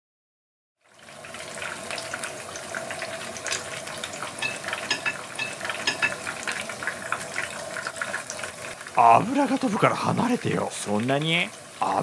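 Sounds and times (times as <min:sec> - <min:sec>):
shrimp sizzling in hot oil: 0:00.8 - 0:12.0.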